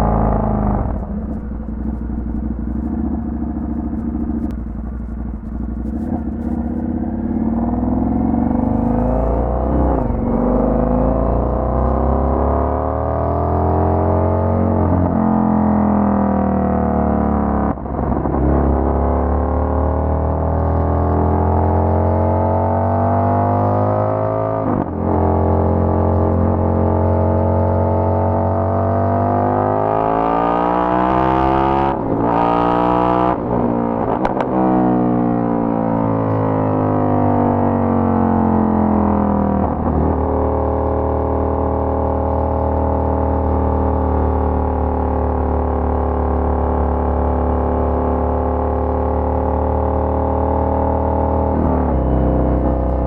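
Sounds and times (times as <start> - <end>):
motorcycle engine while riding: 0.0 - 53.0.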